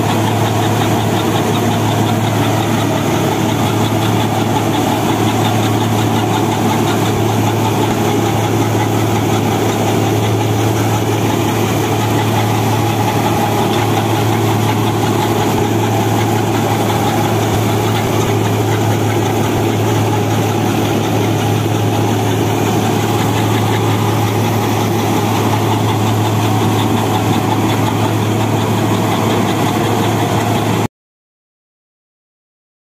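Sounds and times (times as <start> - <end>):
reaper machinery clattering: 0.0 - 30.9
tractor diesel engine running: 0.0 - 30.9.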